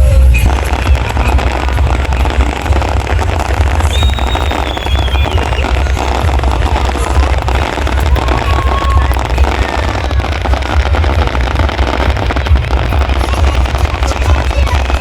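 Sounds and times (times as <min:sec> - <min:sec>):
firework whistle: 0:00.0 - 0:15.0
fireworks crackling: 0:00.0 - 0:15.0
low rumble: 0:00.0 - 0:15.0.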